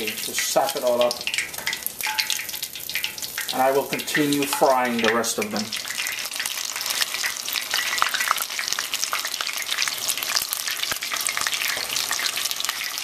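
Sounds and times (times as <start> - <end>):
fish deep-frying in bubbling oil: 0.0 - 13.0.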